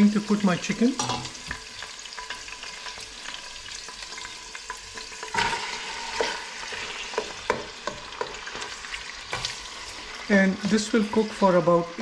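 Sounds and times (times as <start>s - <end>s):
oil sizzling in a pot: 0.0s - 12.0s
spatula scraping and tapping: 1.0s - 11.5s.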